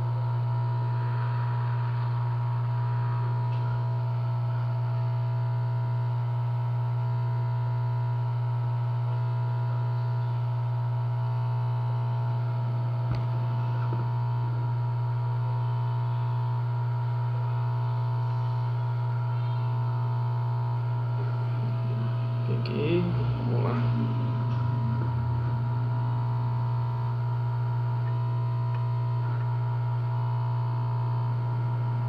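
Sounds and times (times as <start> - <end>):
faint constant whine: 0.0 - 32.0
low electrical hum: 0.0 - 32.0.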